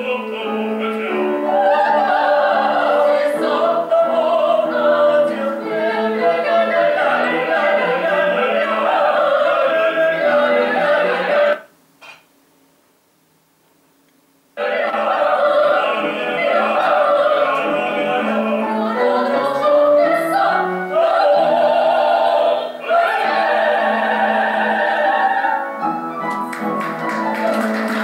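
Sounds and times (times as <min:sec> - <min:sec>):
operatic voices singing with vibrato: 0:00.0 - 0:11.7, 0:14.6 - 0:28.0.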